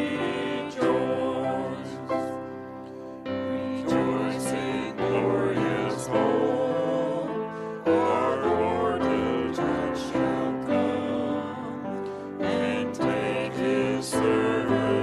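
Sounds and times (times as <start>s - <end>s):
people singing worship song: 0.0s - 15.0s
piano accompaniment: 0.0s - 15.0s.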